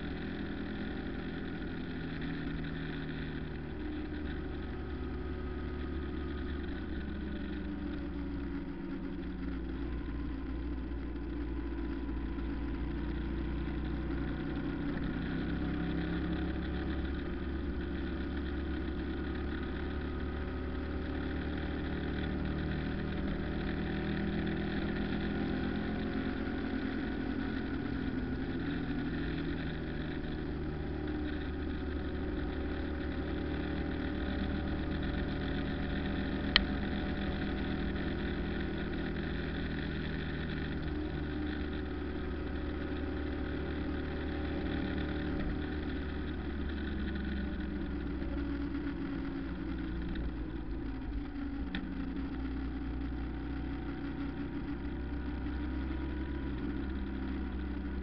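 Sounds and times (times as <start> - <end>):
car engine running: 0.0 - 58.0
road rumble: 0.0 - 58.0.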